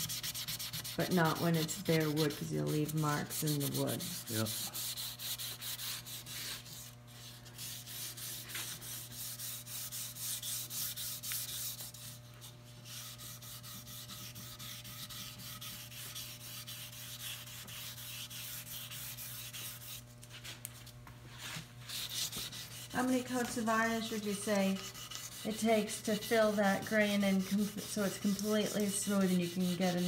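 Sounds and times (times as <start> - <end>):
sandpaper rubbing on wood: 0.0 - 12.2, 12.8 - 20.0, 21.9 - 30.0.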